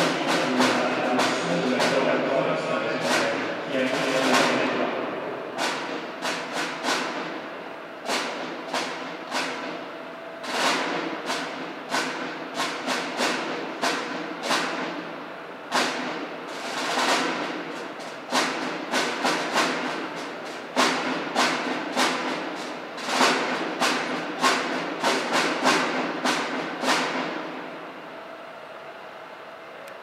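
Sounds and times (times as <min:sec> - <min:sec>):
drums beating with echo: 0:00.0 - 0:28.2.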